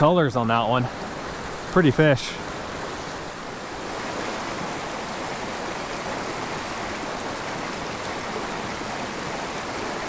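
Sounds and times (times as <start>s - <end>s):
creek babbling over rocks: 0.0s - 10.0s.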